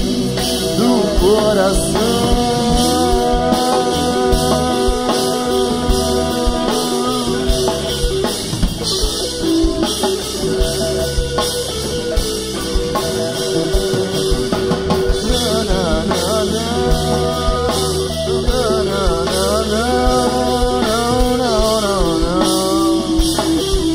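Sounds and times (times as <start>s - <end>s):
bass guitar: 0.0s - 23.9s
drum kit: 0.0s - 23.9s
electric guitar: 0.0s - 23.9s
wavering bending guitar notes: 0.0s - 23.9s.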